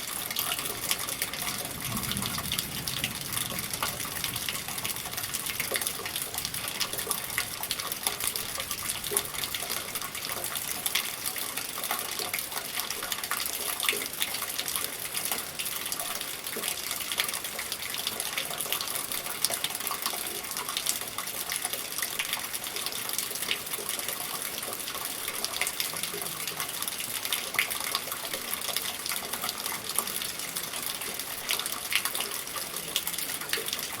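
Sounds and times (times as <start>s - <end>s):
raindrop splashes: 0.0s - 34.0s
steady rain hiss: 0.0s - 34.0s.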